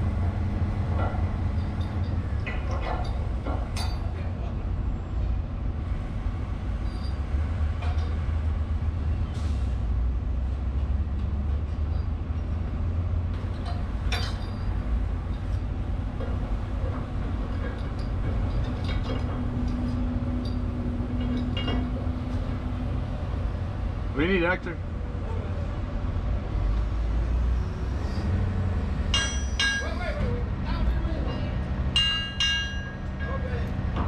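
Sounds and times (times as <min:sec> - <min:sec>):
diesel engine rumbling: 0:00.0 - 0:34.0.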